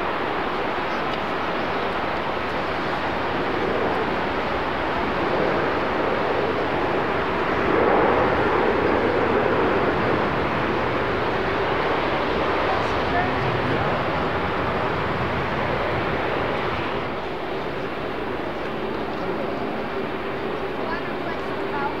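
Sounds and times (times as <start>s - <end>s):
distant jet engines landing: 0.0s - 22.0s.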